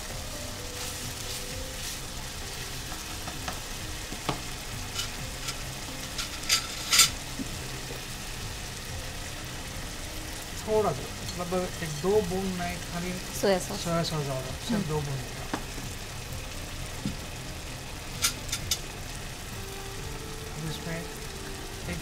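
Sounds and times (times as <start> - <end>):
sauce sizzling in a wok: 0.0 - 22.0.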